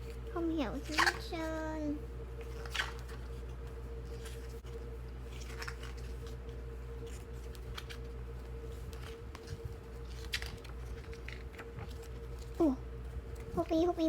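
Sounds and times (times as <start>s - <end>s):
steady background hum: 0.0s - 14.0s
paper pages rustling: 2.4s - 14.0s.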